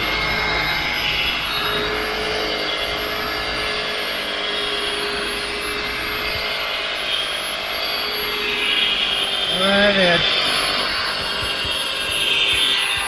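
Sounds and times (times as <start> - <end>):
polishing buffer whirring: 0.0 - 13.0
steady drone: 0.0 - 13.0.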